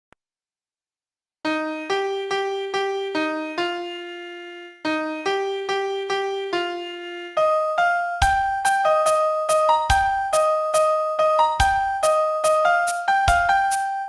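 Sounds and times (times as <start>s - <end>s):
piano melody: 1.5s - 14.0s.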